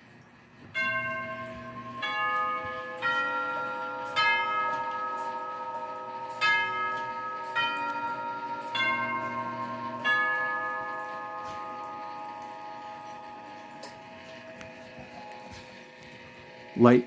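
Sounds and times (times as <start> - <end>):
door chime playing a tune: 0.7 - 16.9.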